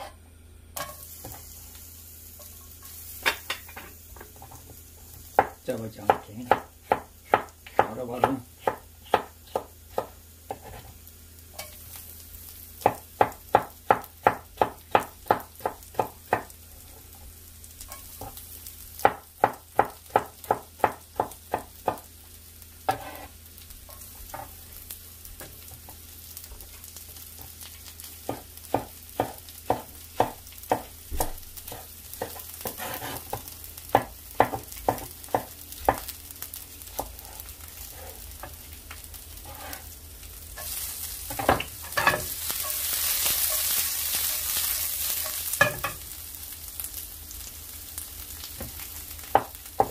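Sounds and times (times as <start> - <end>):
faint frying sizzle: 0.0 - 49.9.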